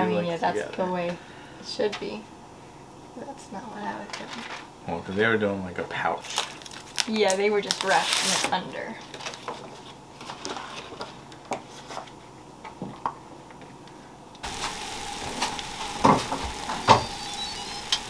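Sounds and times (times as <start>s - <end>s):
steady hum with hiss: 0.0s - 18.0s.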